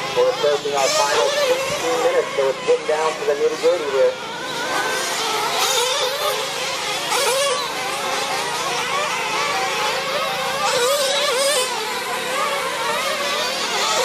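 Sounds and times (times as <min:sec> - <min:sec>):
rc car engines whining: 0:00.0 - 0:14.0.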